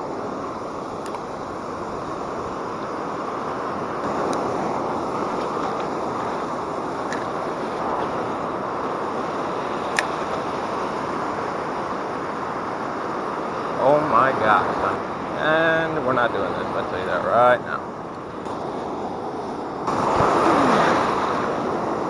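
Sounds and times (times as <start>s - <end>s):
surf breaking in shallows: 0.0s - 22.0s
wind buffeting microphone: 0.0s - 22.0s.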